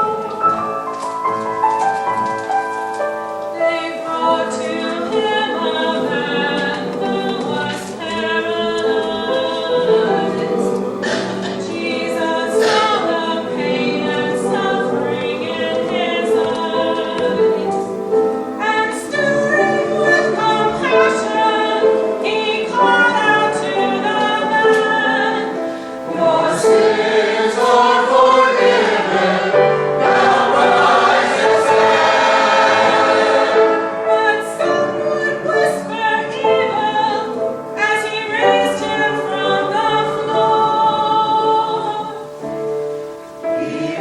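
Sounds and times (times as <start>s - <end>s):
church choir singing: 0.0s - 44.0s.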